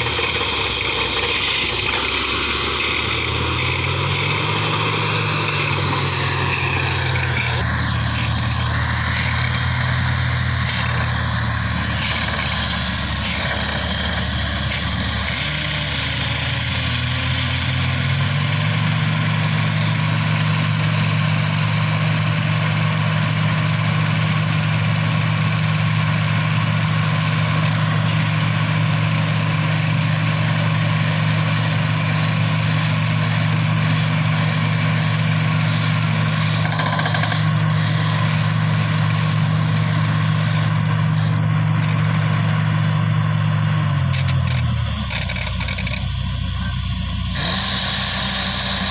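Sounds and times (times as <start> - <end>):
diesel engine droning: 0.0 - 48.9.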